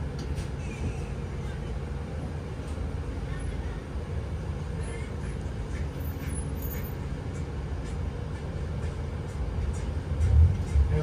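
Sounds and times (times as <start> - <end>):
bus interior rumble: 0.0 - 11.0.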